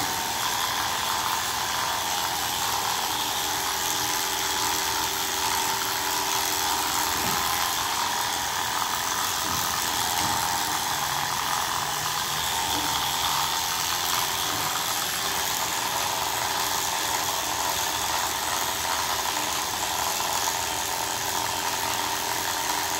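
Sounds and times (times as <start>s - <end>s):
electric hair clippers humming: 0.0s - 22.9s.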